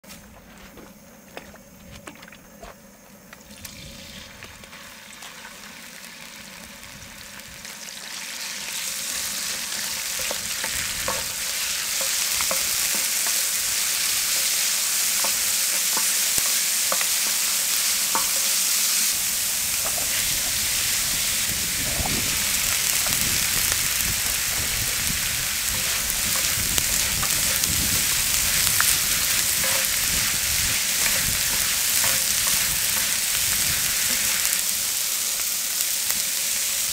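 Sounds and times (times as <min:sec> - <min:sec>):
food sizzling in a pan: 0:03.4 - 0:36.9.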